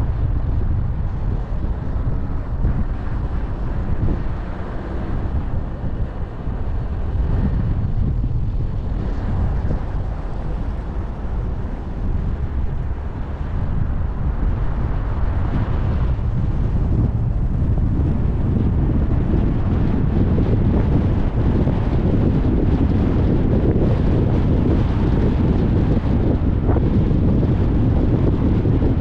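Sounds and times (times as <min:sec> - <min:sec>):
car driving on road: 0:00.0 - 0:29.0
wind rumbling on microphone: 0:00.0 - 0:29.0.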